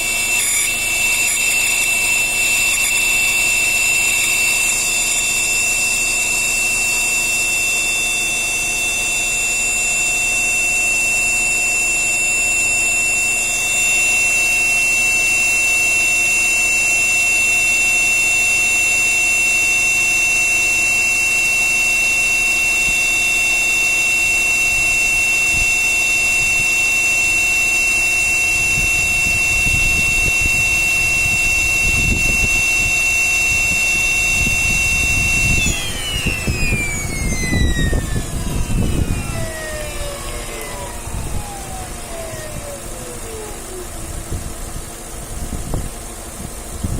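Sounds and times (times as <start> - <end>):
air compressor whistling: 0.0 - 46.9.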